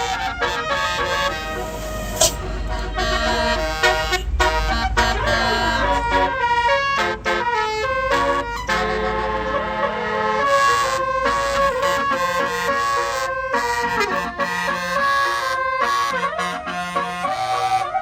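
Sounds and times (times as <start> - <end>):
bus engine rumble: 0.0 - 18.0
musical air horn melody: 0.0 - 18.0.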